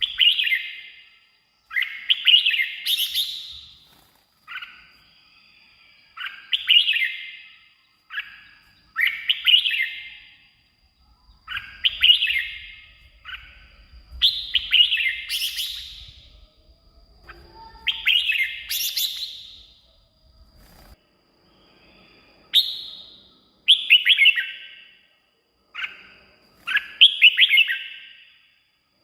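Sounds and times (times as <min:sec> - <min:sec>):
bird singing bright warbling phrases: 0:00.0 - 0:28.7
faint steady high tone: 0:00.0 - 0:29.0.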